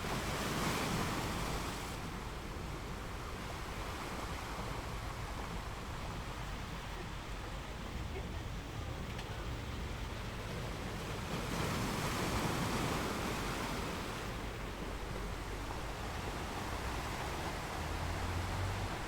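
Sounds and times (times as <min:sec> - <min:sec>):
sea waves washing on shore: 0:00.0 - 0:19.0.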